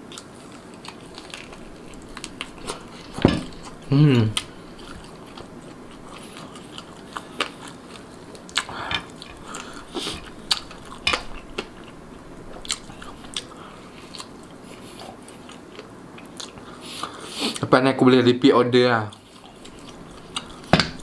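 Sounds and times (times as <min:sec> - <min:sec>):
chewing: 0:00.0 - 0:17.6, 0:19.1 - 0:21.0.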